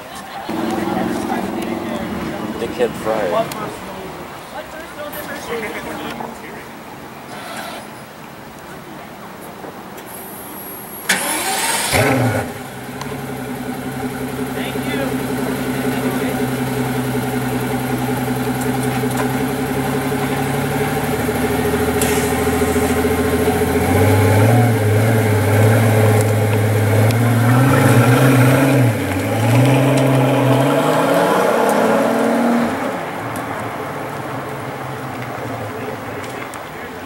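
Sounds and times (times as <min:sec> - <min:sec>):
sports car engine: 0:00.4 - 0:08.5, 0:10.0 - 0:37.0.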